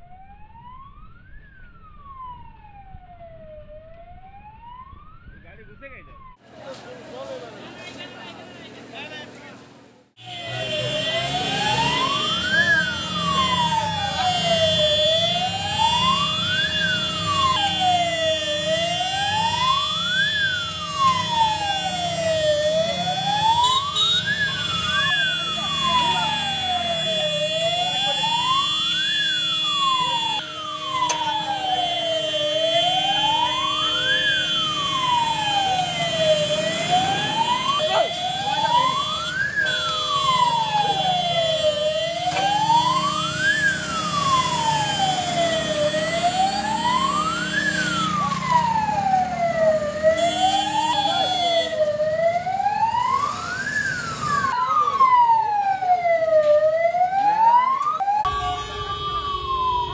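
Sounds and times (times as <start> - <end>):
fire engine siren wailing: 0.0 - 6.4, 10.2 - 59.9.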